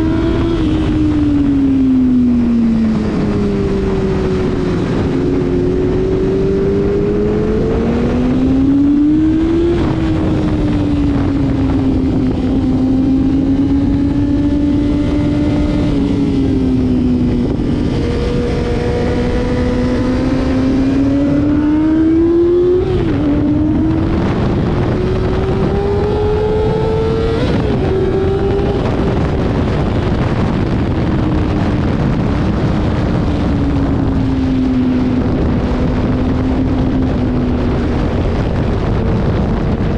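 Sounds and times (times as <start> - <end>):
motorcycle engine revving: 0.0 - 39.9
wind noise rushing: 0.0 - 39.9.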